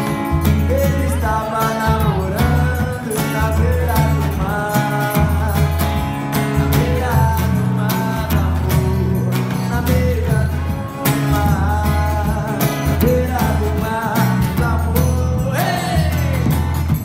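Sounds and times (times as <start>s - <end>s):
bass drum beating: 0.0s - 17.0s
man singing: 0.0s - 17.0s
strummed acoustic guitar: 0.0s - 17.0s.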